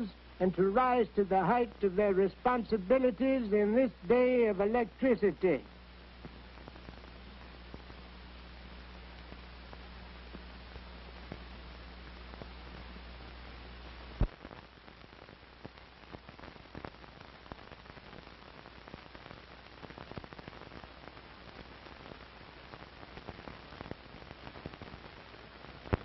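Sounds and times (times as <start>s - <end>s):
film soundtrack hiss and crackle: 0.0s - 26.0s.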